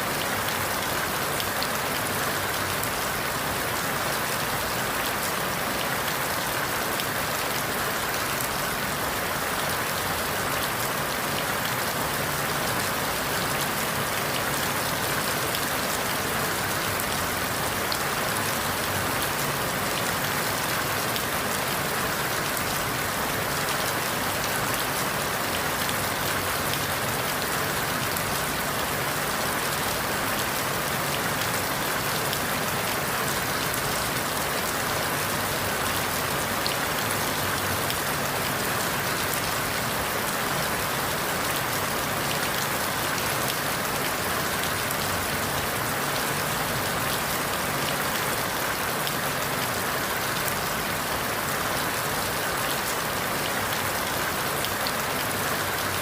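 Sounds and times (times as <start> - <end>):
rain falling through leaves: 0.0 - 56.0.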